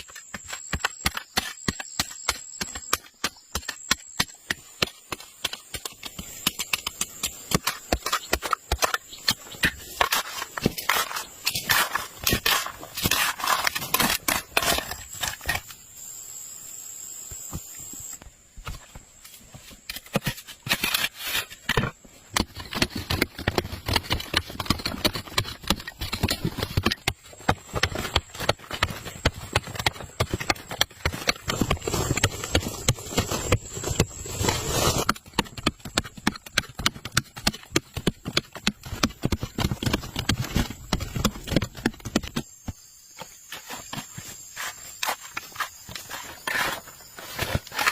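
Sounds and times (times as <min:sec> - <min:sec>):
knocks and scrapes: 0:00.0 - 0:15.8, 0:17.5 - 0:47.9.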